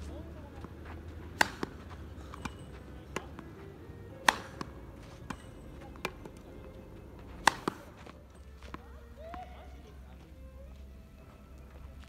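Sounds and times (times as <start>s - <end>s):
tennis ball struck with racket: 0.0s - 9.9s.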